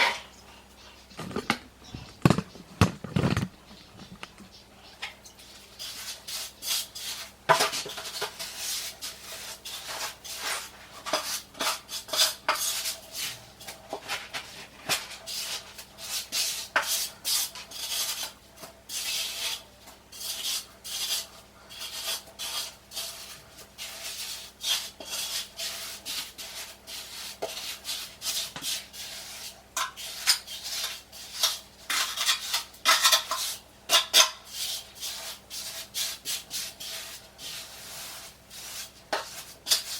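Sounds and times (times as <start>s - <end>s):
trowel scraping mortar: 5.5s - 39.9s.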